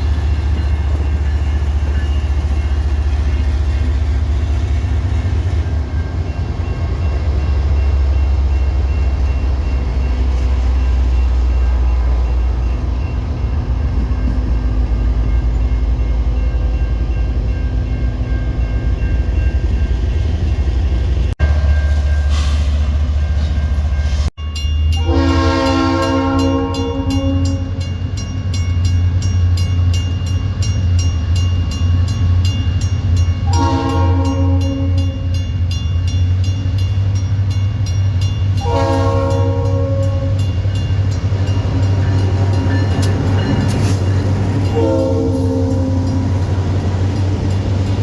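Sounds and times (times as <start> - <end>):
train engine tones: 0.0 - 48.0
train rumbling past: 0.0 - 48.0.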